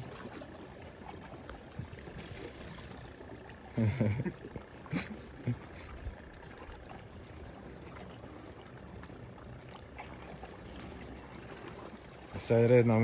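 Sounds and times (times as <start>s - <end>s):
water lapping against rocks: 0.0s - 13.0s.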